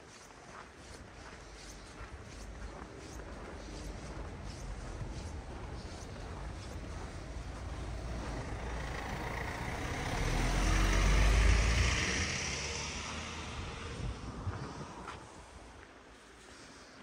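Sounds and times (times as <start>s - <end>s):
van driving past: 1.4s - 15.5s.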